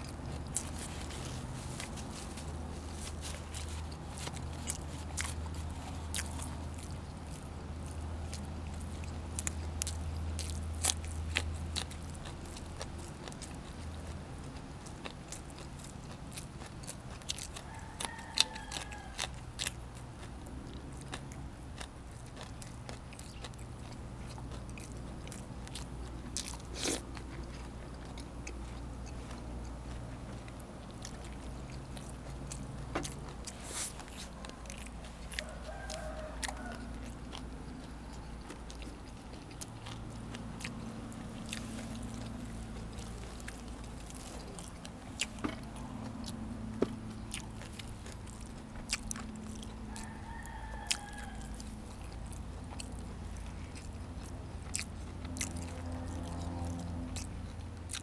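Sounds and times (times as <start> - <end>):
low steady hum: 0.0 - 58.0
person chewing crunchy food: 0.0 - 58.0.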